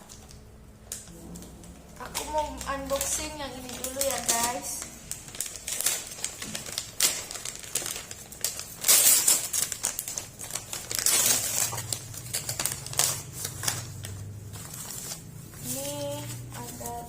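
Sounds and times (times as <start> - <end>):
gift wrapping crinkling: 0.0 - 17.0.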